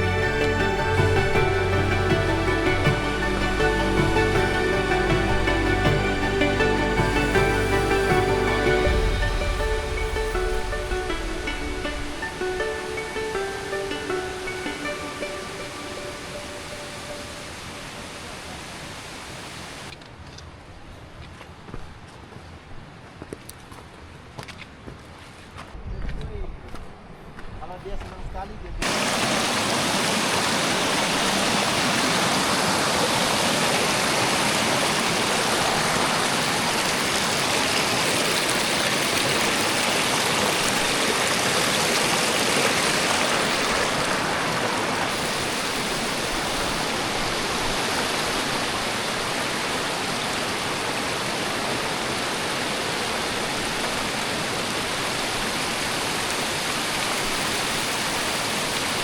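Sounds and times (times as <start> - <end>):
mountain water rushing: 0.0 - 20.0, 28.8 - 59.0.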